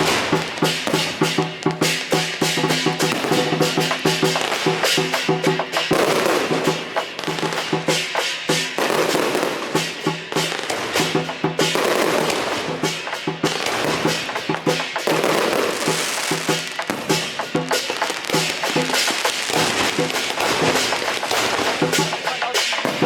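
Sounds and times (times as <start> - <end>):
firecrackers cracking: 0.0 - 23.0
music playing: 3.1 - 23.0.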